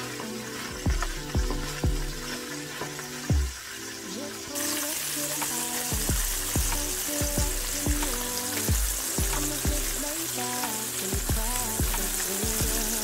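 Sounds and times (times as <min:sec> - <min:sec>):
background music with steady beat: 0:00.0 - 0:13.0
fish frying in oil: 0:00.0 - 0:13.0.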